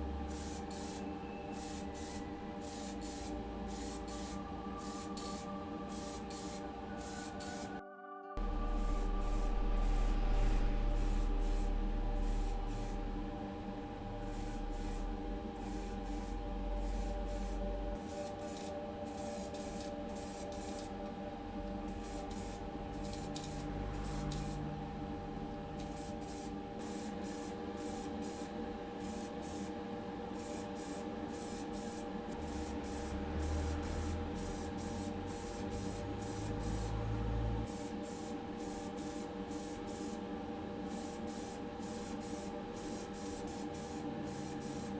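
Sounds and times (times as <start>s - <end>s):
steady hum: 0.0s - 7.8s, 8.4s - 44.9s
spray paint hissing: 0.3s - 7.7s, 8.7s - 13.0s, 14.2s - 20.9s, 22.0s - 24.6s, 25.8s - 29.7s, 30.4s - 37.0s, 37.7s - 40.2s, 40.9s - 44.9s.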